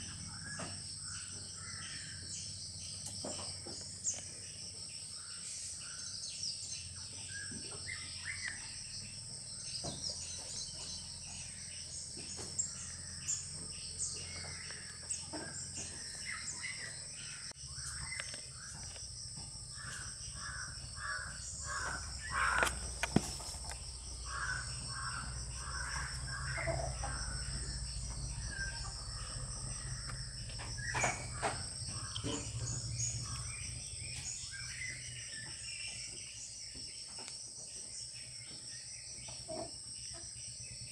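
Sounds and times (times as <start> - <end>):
chorus of crickets: 0.0 - 40.9.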